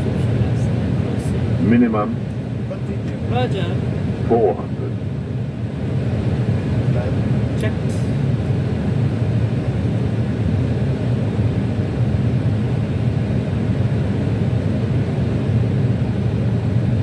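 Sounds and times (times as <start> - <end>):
airflow and engine rumble: 0.0 - 17.0.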